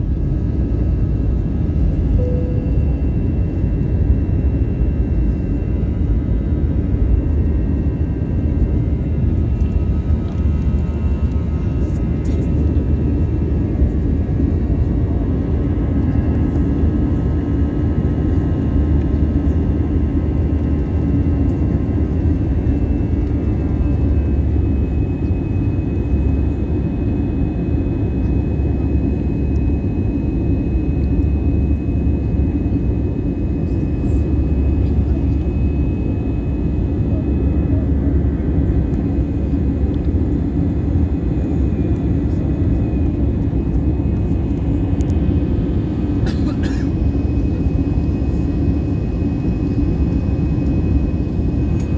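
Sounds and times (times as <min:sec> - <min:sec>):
jet engine and airflow rumble: 0:00.0 - 0:51.9.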